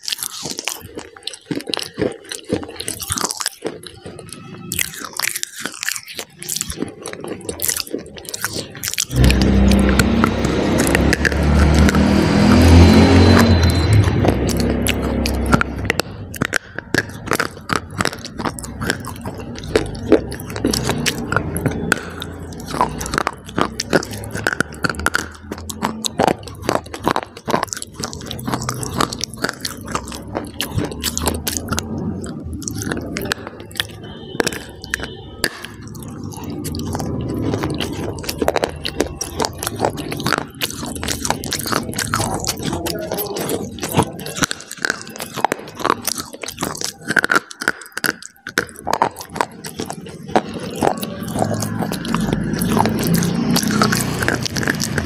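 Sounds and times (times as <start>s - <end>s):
crisp crunches and snaps: 0.0s - 55.0s
wet chewing: 0.0s - 55.0s.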